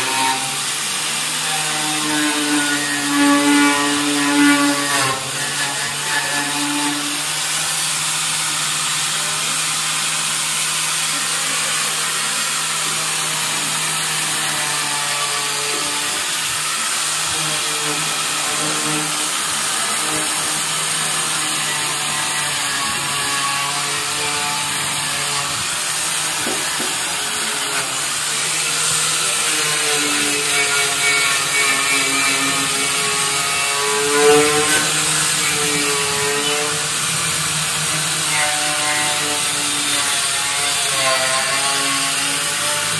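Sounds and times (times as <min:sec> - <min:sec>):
power tool scouring rust off steel: 0:00.0 - 0:42.9.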